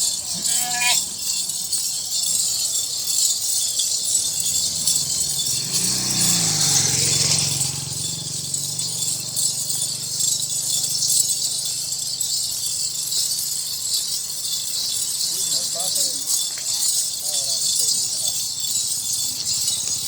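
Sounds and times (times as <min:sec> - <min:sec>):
small bells jingling: 0:00.0 - 0:20.0.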